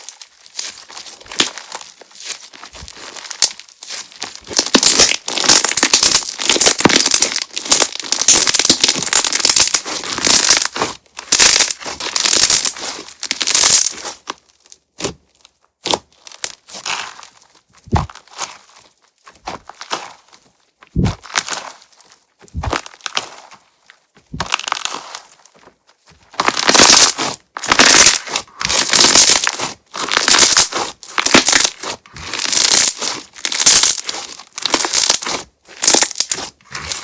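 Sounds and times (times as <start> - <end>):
slime crackling and popping: 0.0 - 20.3, 20.9 - 23.5, 24.3 - 25.6, 26.3 - 37.0.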